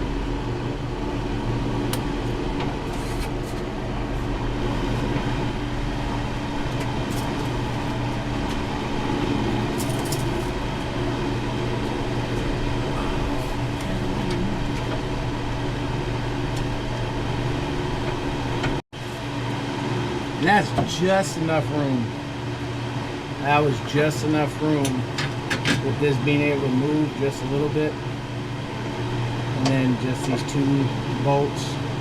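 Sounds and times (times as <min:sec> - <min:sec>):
electric fan blowing: 0:00.0 - 0:32.0.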